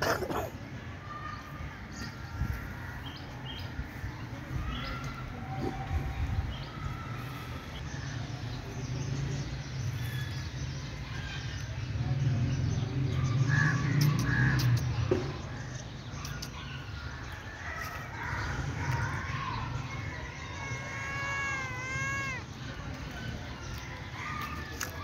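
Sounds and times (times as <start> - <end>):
birds calling: 1.3 - 25.0.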